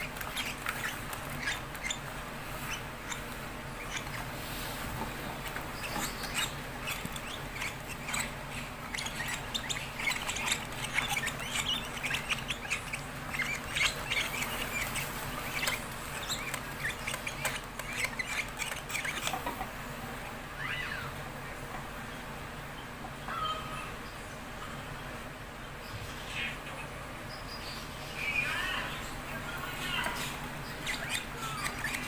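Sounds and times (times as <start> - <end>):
lovebirds chirping and squawking: 0.0 - 19.6, 20.5 - 21.2, 23.2 - 24.8, 25.8 - 32.0.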